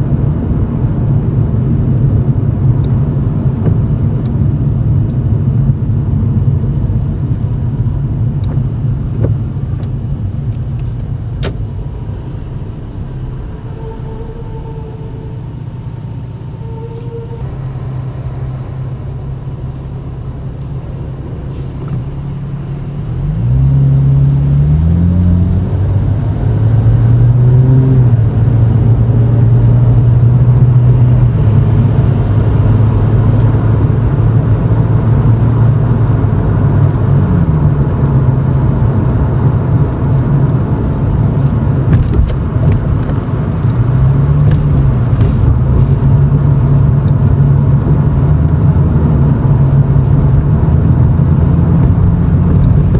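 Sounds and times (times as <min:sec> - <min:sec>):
car exhaust drone: 0:00.0 - 0:52.9.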